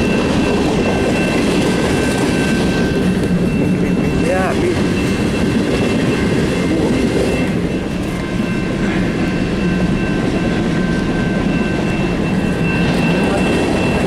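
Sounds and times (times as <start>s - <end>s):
freight train wheels rumbling on rail: 0.0s - 14.0s
high whine from train wheels: 0.0s - 14.0s.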